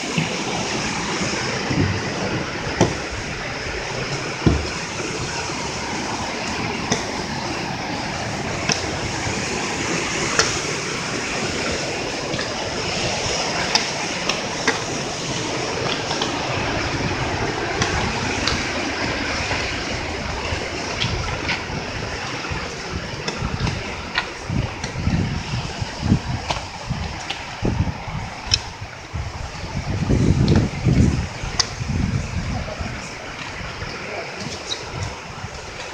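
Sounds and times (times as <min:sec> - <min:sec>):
flowing river water: 0:00.0 - 0:35.9.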